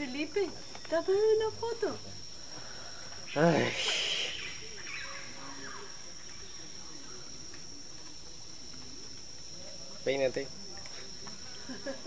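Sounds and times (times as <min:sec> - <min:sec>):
faint distant voices: 0:00.0 - 0:12.0
insects droning: 0:00.0 - 0:12.0.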